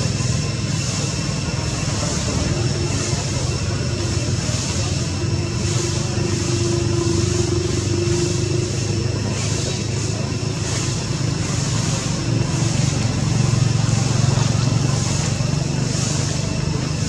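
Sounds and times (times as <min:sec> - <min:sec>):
high hiss: 0:00.0 - 0:17.0
low engine-like hum: 0:00.0 - 0:17.0.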